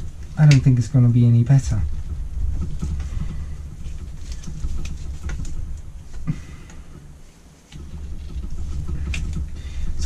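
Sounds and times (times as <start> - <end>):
small ticks and knocks: 0.0 - 10.0
steady low rumble: 0.0 - 10.0.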